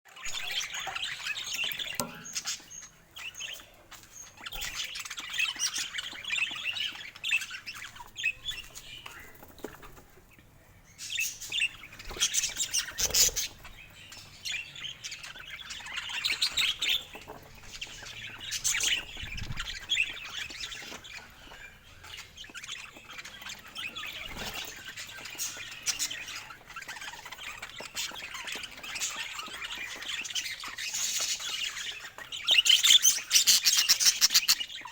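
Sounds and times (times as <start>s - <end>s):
parakeets chirping: 0.1s - 34.9s.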